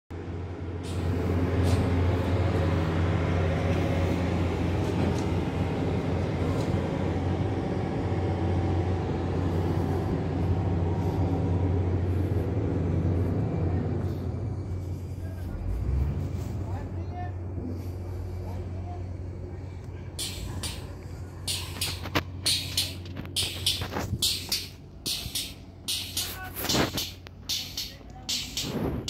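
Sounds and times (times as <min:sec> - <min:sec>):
diesel engine humming: 0:00.1 - 0:29.0.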